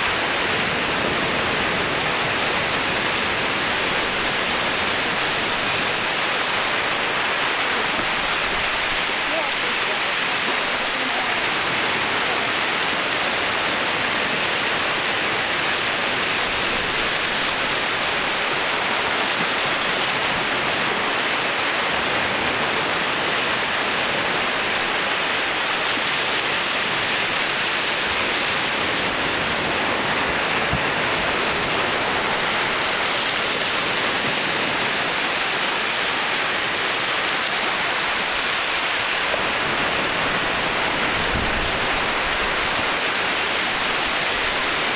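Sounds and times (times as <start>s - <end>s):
ocean surf on beach: 0.0s - 44.9s.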